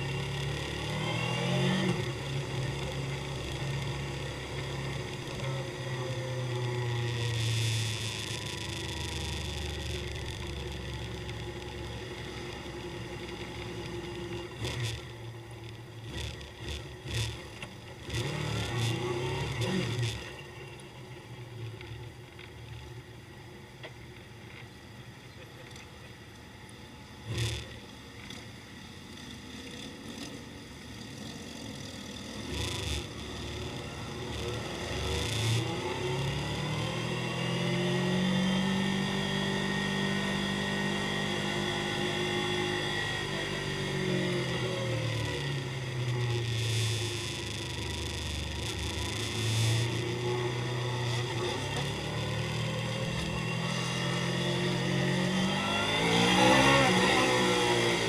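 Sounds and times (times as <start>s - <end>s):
motorcycle engine running: 0.0s - 22.5s, 27.3s - 58.0s.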